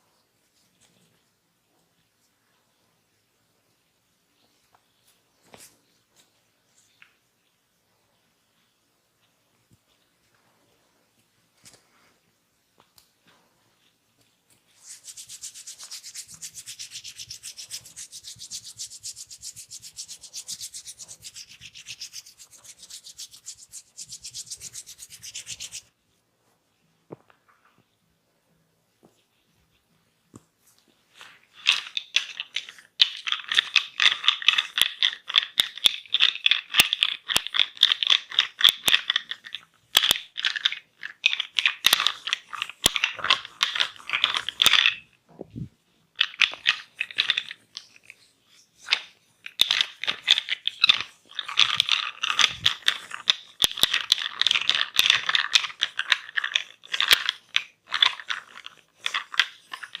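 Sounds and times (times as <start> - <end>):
crackling and scratching on head: 4.4 - 26.0, 29.0 - 45.2, 46.1 - 60.0.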